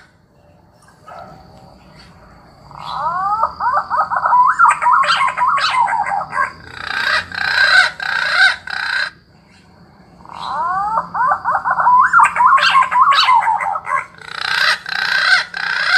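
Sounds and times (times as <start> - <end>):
recorded bird call from loudspeaker: 0.3 - 15.9.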